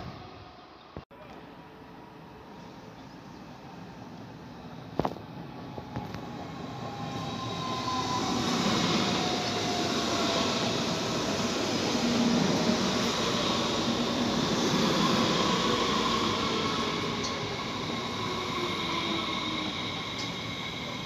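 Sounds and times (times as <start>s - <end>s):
electric train whine: 1.6s - 21.0s.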